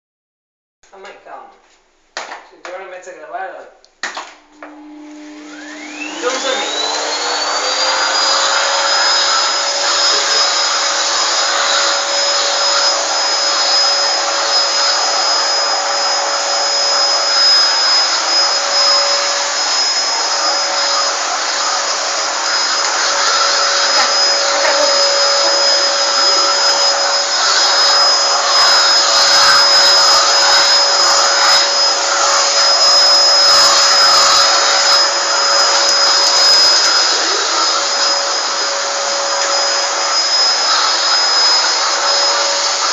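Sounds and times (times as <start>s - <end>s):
vacuum cleaner running: 4.1s - 42.9s.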